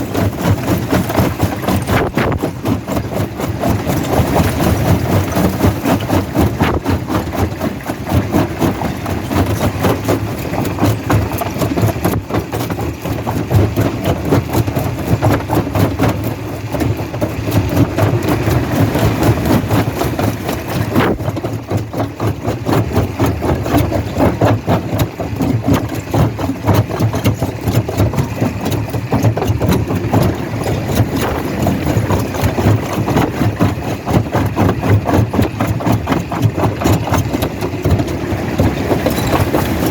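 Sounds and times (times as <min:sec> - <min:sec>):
rock crushing clatter: 0:00.0 - 0:39.9.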